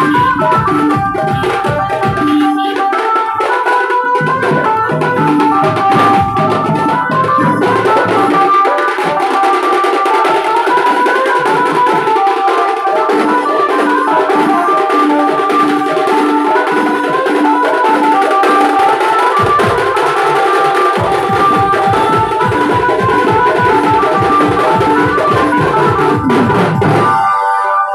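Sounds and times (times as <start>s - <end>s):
dhol drums beaten fast: 0.0s - 27.3s
electronic keyboard melody: 0.0s - 27.9s.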